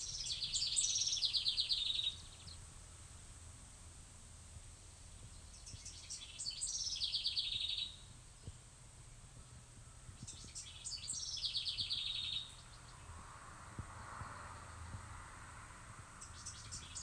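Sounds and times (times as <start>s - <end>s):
songbird singing: 0.0s - 3.4s, 4.7s - 17.0s.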